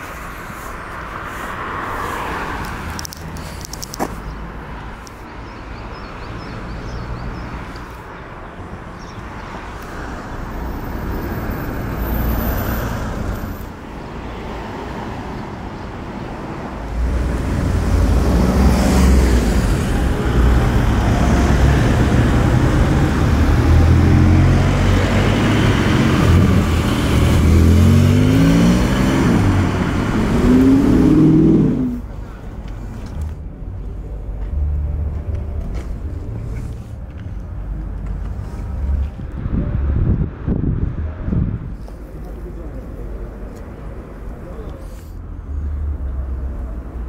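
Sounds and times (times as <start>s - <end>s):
street noise: 0.0s - 47.0s.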